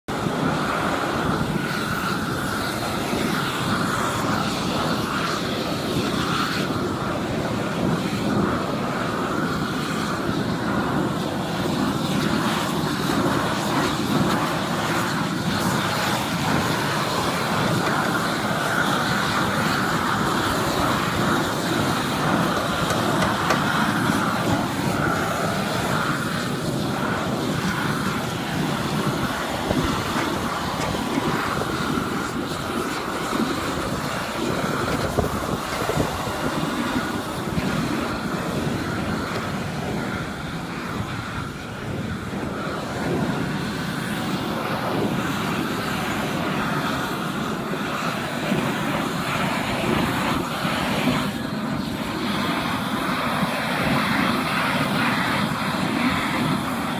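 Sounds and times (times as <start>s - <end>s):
propane torch burning: 0.1s - 56.9s.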